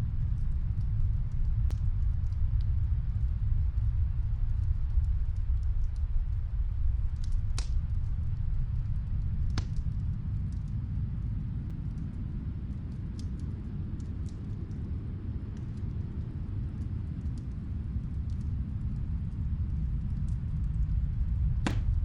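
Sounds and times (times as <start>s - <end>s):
snowstorm wind rumble: 0.0s - 22.0s
wood fire crackling and popping: 0.2s - 22.0s.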